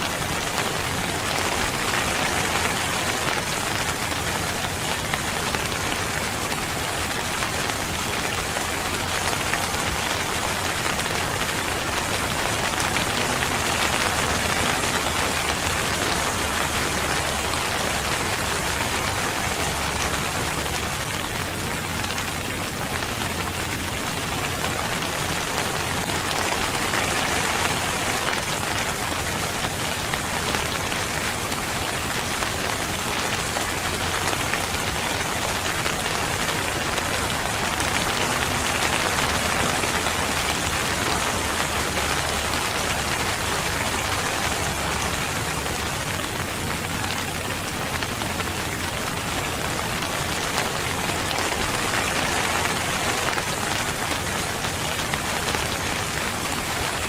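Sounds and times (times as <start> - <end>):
rain hissing on a surface: 0.0 - 57.0.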